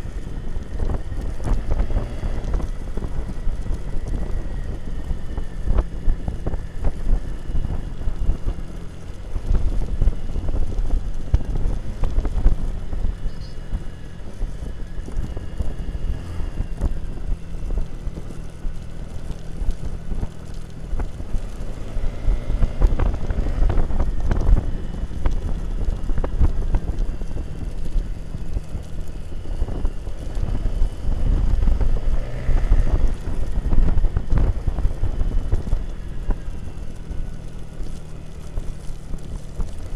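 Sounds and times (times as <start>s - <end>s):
motorbike engine running: 0.0s - 39.9s
wind buffeting microphone: 0.0s - 39.9s.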